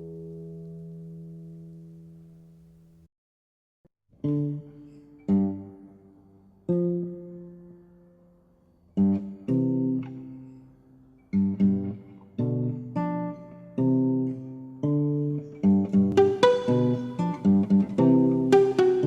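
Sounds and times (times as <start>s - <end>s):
classical guitar music: 0.0s - 3.0s, 4.2s - 19.0s.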